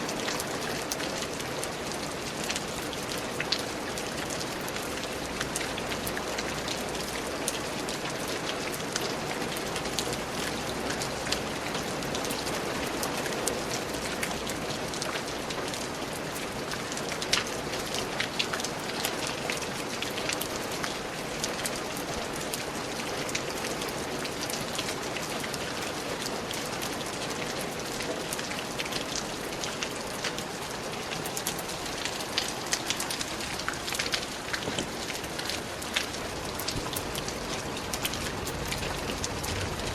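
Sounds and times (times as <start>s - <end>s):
steady rain with pattering drops: 0.0s - 39.9s.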